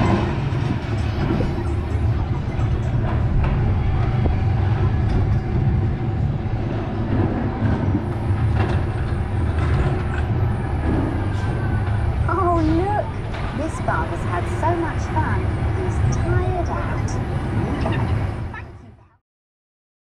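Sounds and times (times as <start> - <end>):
ride car rumbling on steel track: 0.0 - 19.2.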